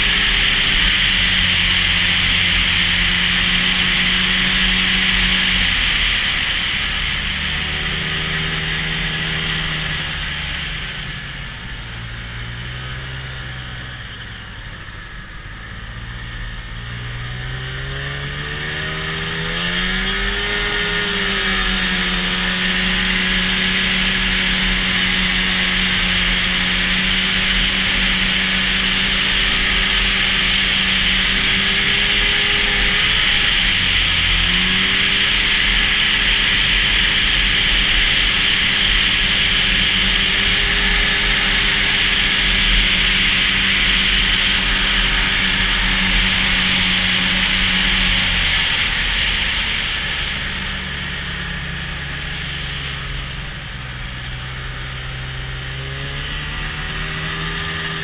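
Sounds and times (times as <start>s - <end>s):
loud steady hiss: 0.0s - 14.0s, 20.7s - 55.6s
snowmobile engine revving: 0.0s - 58.0s.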